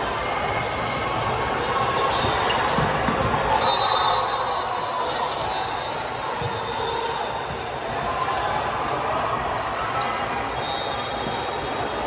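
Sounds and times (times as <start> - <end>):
echoing gym noise: 0.0 - 12.0.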